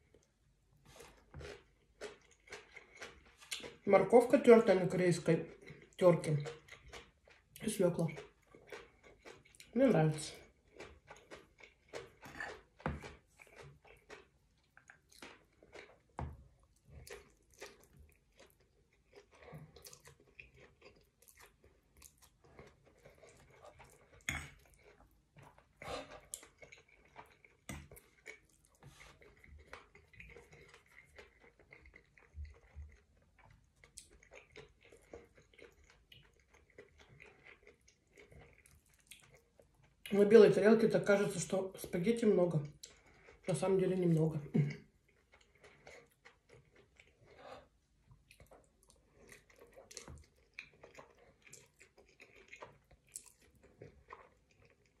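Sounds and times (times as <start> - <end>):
person chewing and swallowing: 0.0 - 3.9, 5.4 - 40.1, 42.6 - 43.6, 44.4 - 55.0.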